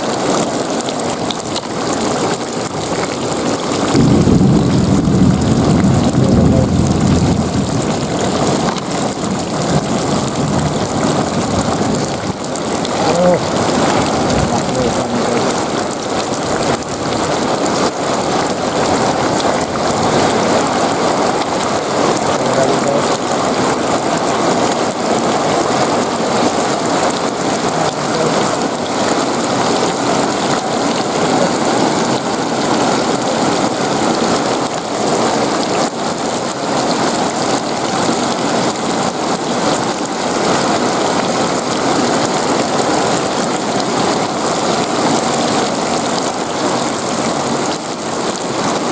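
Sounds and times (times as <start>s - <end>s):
heavy rain splashing into puddles: 0.0s - 48.9s.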